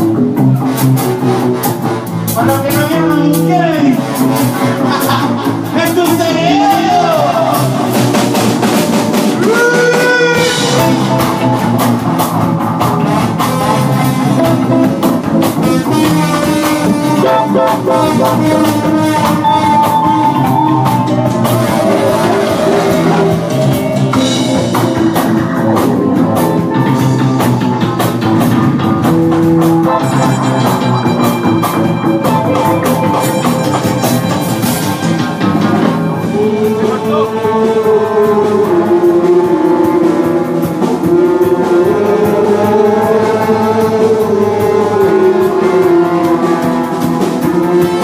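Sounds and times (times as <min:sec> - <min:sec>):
drums keeping a steady beat: 0:00.0 - 0:48.0
live band playing loud music: 0:00.0 - 0:48.0.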